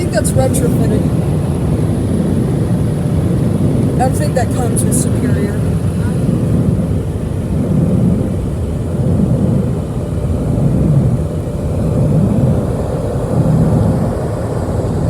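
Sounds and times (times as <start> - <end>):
car wash blowers rumbling: 0.0 - 15.0.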